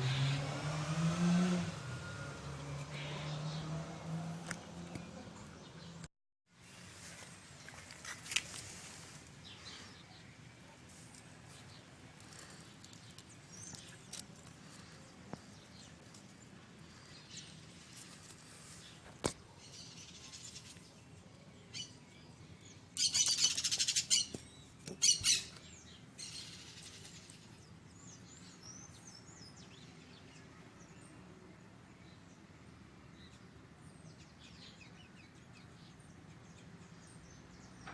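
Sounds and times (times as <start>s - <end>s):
small birds chirping: 7.2s - 37.9s.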